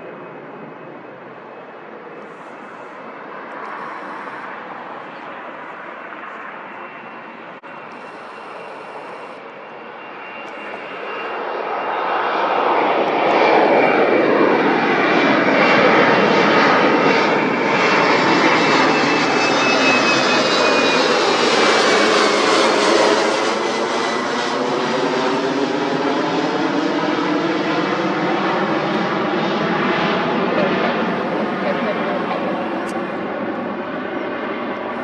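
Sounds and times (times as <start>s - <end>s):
airliner engines roaring: 0.0s - 35.0s
high engine whine falling in pitch: 0.8s - 5.7s, 6.6s - 33.4s.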